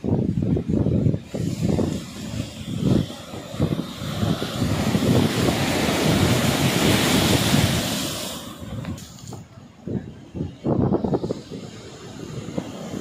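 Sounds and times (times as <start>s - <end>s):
wave breaking on beach: 0.0s - 9.4s, 10.3s - 13.0s
wind buffeting microphone: 0.0s - 13.0s.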